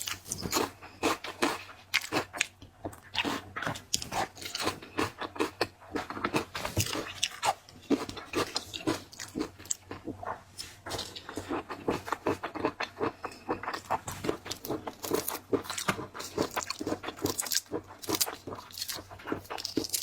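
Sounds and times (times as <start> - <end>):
chewing and crunching seafood: 0.0 - 20.0.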